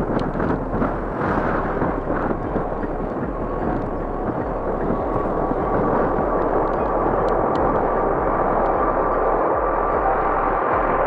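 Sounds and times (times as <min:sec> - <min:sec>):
faint steady whine: 0:00.0 - 0:11.0
jet engines rumbling at take-off: 0:00.0 - 0:11.0.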